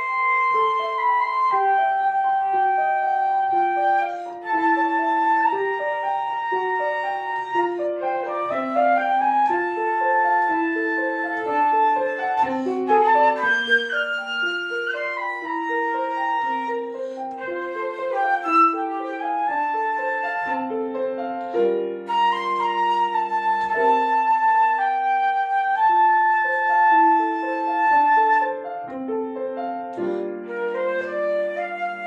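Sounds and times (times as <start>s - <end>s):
flute melody: 0.0s - 32.0s
piano accompaniment: 0.0s - 32.0s.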